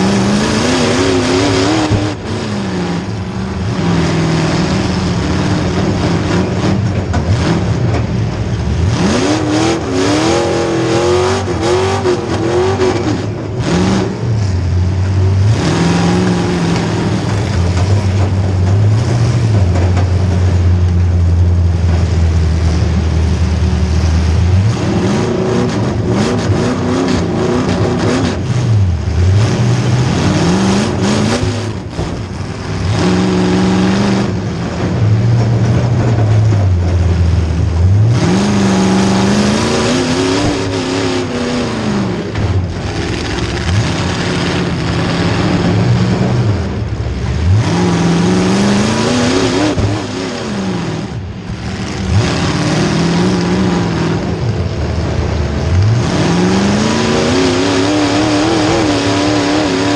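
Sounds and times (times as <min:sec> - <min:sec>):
car engine revving loudly: 0:00.0 - 0:59.9.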